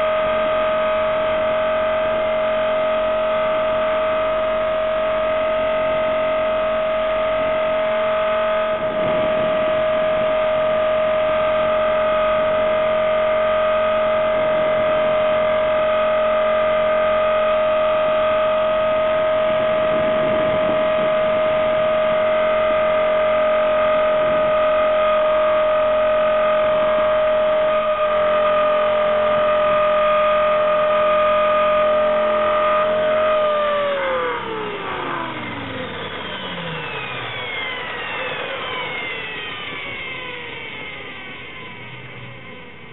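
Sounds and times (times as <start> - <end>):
rc helicopter rotor whine: 0.0 - 42.9.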